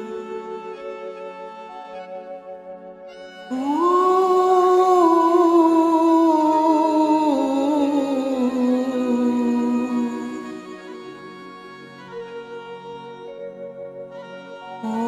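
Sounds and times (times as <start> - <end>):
karaoke backing music: 0.0 - 13.2, 14.1 - 15.0.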